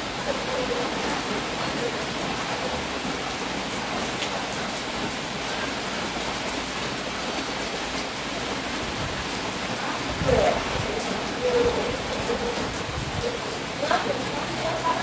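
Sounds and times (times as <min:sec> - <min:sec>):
rain falling: 0:00.0 - 0:15.0
raindrops ticking on surfaces: 0:00.0 - 0:15.0.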